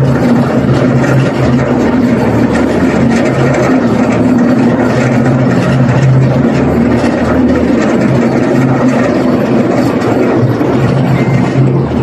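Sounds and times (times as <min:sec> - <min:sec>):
small train engine droning: 0:00.0 - 0:12.0.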